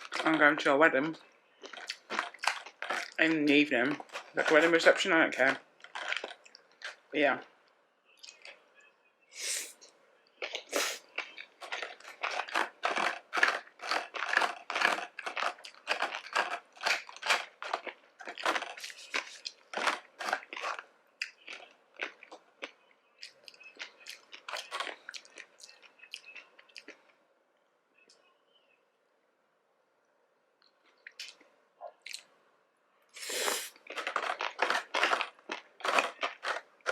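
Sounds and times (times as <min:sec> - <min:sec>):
wet crunchy chewing: 0:00.0 - 0:07.5, 0:08.2 - 0:08.6, 0:10.3 - 0:27.2, 0:30.9 - 0:32.3, 0:33.2 - 0:36.9.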